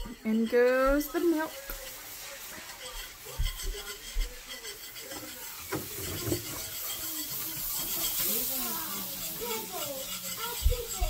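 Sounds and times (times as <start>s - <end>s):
milk hissing in hot pan: 0.0s - 11.0s
whisk scraping a pan: 0.0s - 11.0s.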